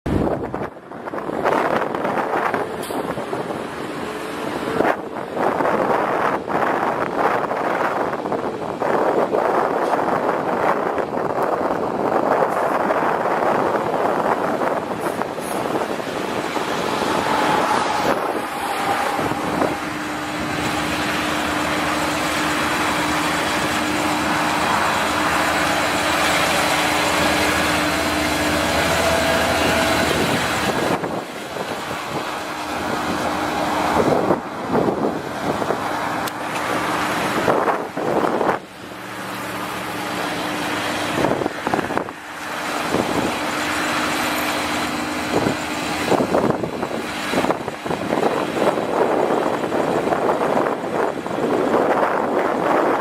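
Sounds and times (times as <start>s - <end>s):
tractor diesel engine running: 10.0s - 52.7s.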